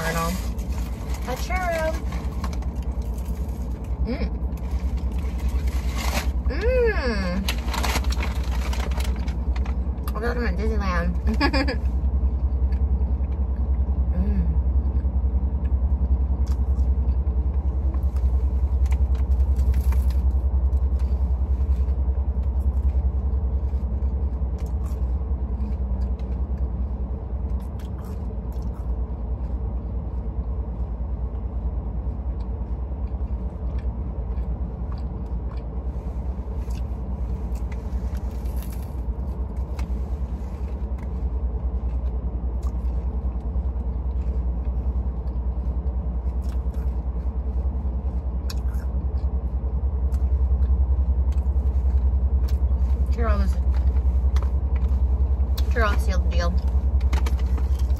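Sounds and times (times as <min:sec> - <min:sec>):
car interior rumble: 0:00.0 - 0:57.9
faint hum: 0:00.0 - 0:57.9.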